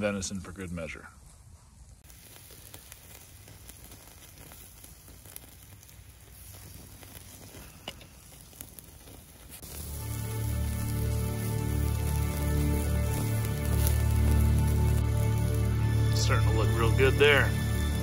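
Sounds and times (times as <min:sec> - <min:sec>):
embers crackling and popping: 0:00.0 - 0:18.0
meat skewers sizzling: 0:01.9 - 0:18.0.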